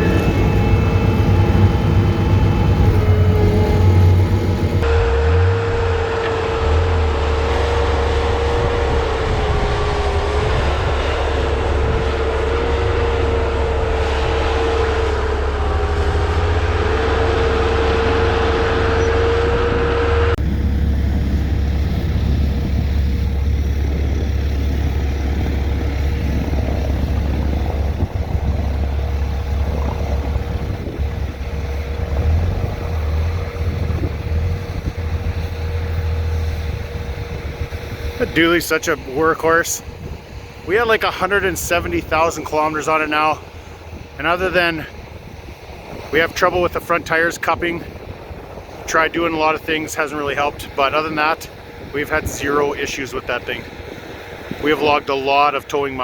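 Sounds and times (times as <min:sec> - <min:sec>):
wavering whine: 0:00.0 - 0:48.9
vehicle engine rumbling: 0:00.0 - 0:56.0.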